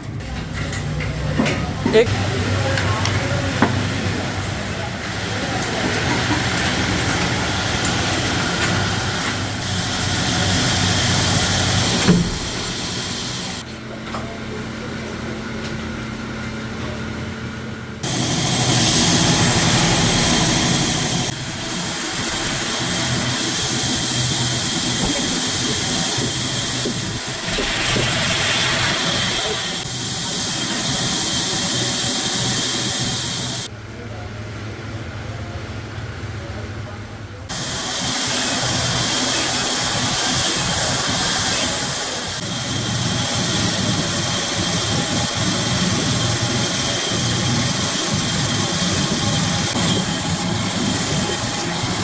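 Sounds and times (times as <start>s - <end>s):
factory machinery hissing and whirring: 1.8s - 13.7s, 17.9s - 33.7s, 37.5s - 52.0s.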